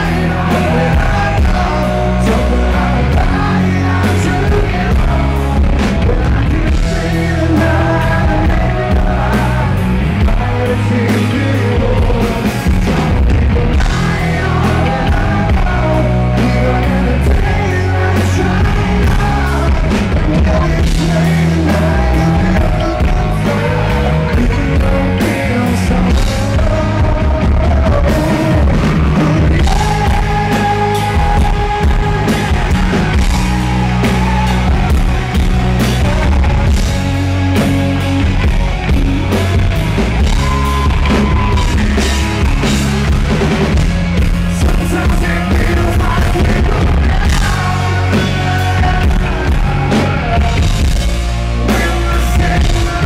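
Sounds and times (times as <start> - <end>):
drums: 0.0 - 53.0
electric guitars: 0.0 - 53.0
man singing: 0.0 - 53.0.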